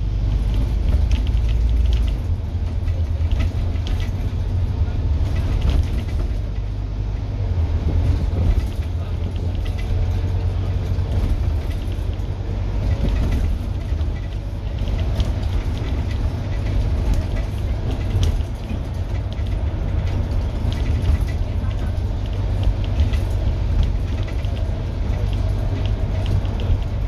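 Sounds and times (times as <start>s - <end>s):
bus body clicks and rattles: 0.0s - 27.0s
bus diesel engine droning: 0.0s - 27.0s.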